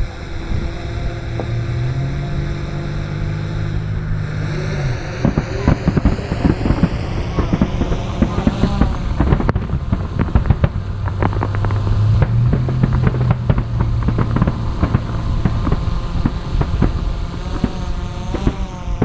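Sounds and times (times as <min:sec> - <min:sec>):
steady low hum: 0:00.0 - 0:19.0
distant fireworks bangs and crackles: 0:01.2 - 0:02.0, 0:04.4 - 0:19.0.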